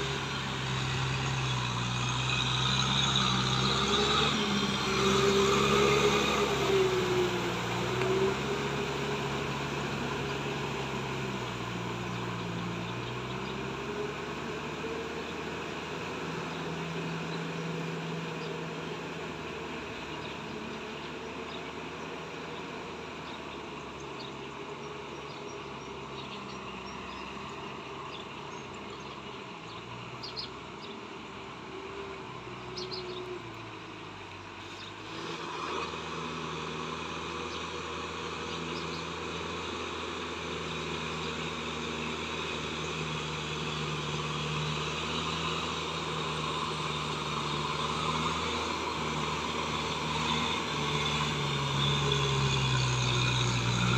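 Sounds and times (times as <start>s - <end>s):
tractor diesel engine: 0.0s - 53.9s.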